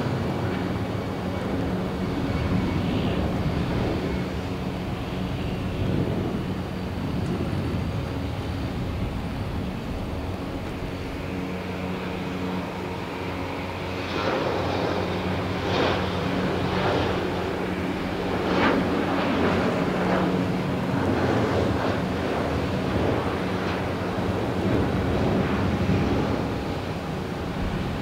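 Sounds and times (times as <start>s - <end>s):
jet engines at takeoff: 0.0s - 28.0s
steady low hum: 0.0s - 28.0s.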